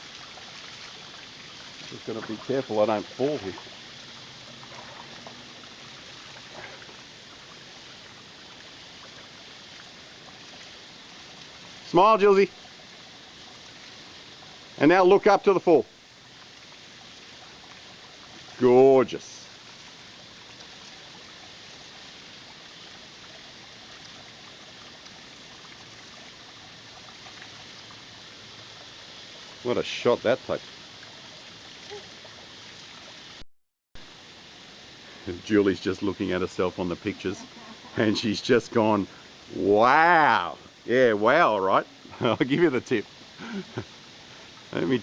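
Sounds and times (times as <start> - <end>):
waterfall pouring into pool: 0.0 - 33.4, 34.0 - 45.0.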